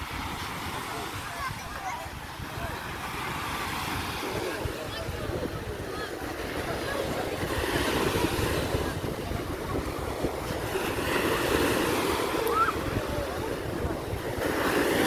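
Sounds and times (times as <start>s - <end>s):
faint voices: 0.0s - 15.0s
surf breaking on shore: 0.0s - 15.0s
wind buffeting microphone: 0.0s - 15.0s.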